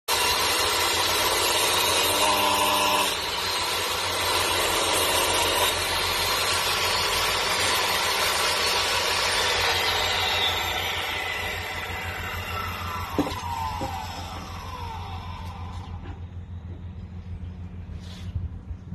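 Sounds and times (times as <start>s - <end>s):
miter saw cutting wood: 0.1s - 16.5s.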